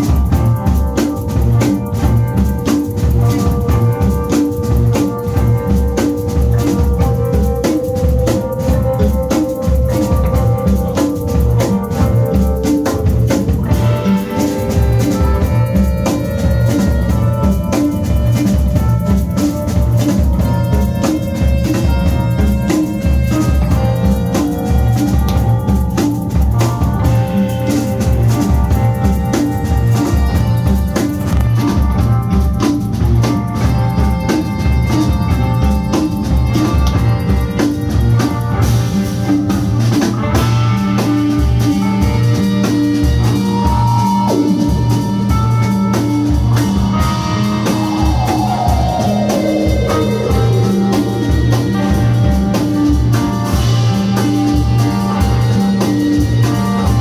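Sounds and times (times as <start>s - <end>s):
bass: 0.0s - 57.0s
drum kit beat: 0.0s - 57.0s
electric guitar: 0.0s - 57.0s
keyboards: 0.0s - 57.0s
saxophone: 0.0s - 57.0s
falling pitch glide: 1.2s - 55.9s.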